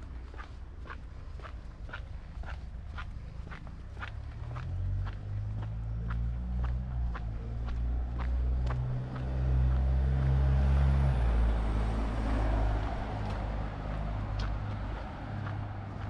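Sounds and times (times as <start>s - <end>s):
footsteps on pavement: 0.0s - 16.0s
tyre and road noise: 0.0s - 16.0s
vehicle engine humming: 0.0s - 16.0s.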